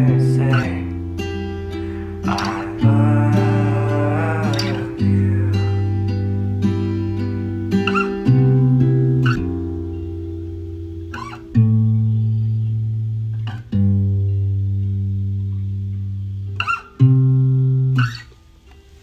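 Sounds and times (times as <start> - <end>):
guitar playing slow chords: 0.0 - 19.0.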